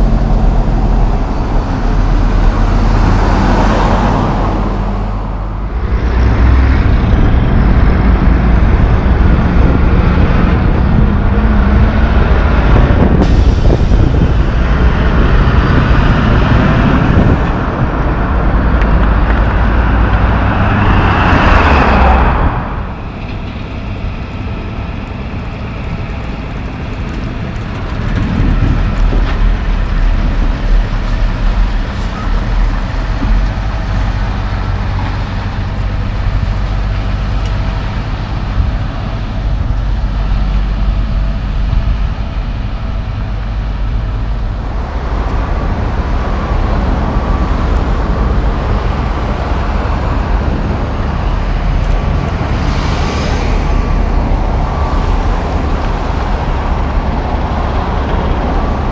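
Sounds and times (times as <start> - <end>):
dump truck diesel rumble: 0.0 - 58.9
engine drone with faint whine: 0.0 - 58.9
light road traffic: 0.0 - 58.9.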